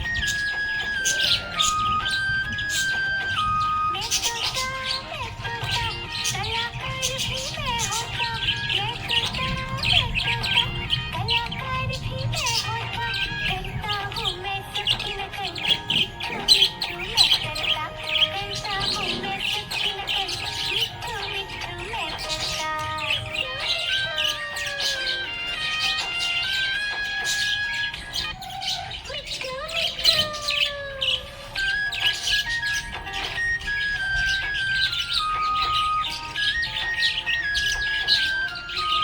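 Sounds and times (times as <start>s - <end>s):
background music melody: 0.0s - 39.0s
budgerigar chirping: 0.0s - 39.0s.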